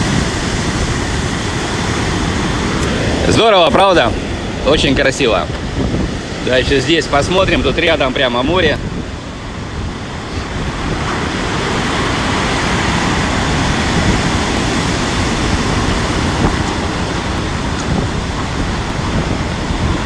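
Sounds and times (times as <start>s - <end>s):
storm surf: 0.0s - 20.0s
wind buffeting microphone: 0.0s - 20.0s.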